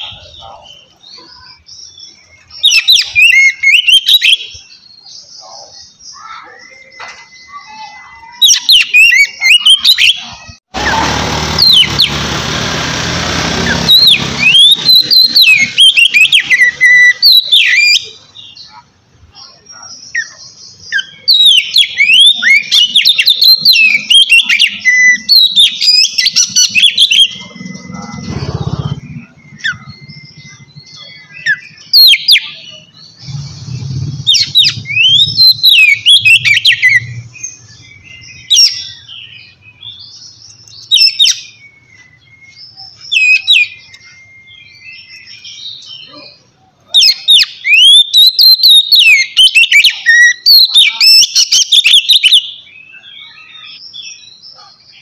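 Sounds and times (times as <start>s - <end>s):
bird whistling and chattering: 0.0s - 11.0s, 13.6s - 54.7s.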